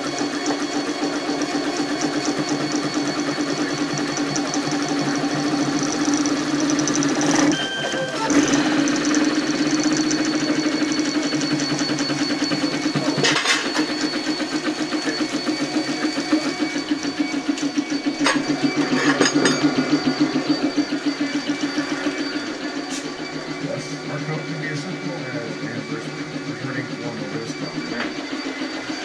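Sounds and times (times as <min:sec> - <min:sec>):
fast pulsing beat: 0:00.0 - 0:29.0
three d printer motors buzzing: 0:00.0 - 0:29.0.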